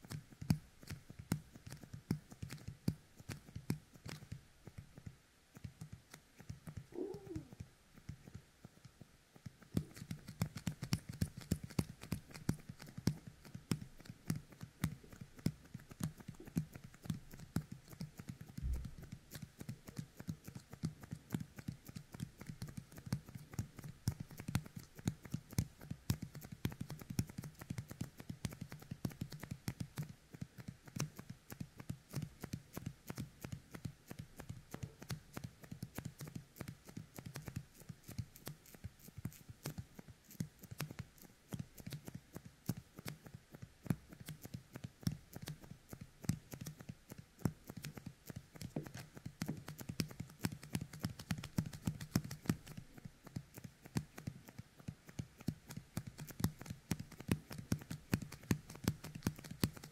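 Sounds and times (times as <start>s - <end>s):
sticky fingertips clicking and crackling: 0.0s - 59.9s.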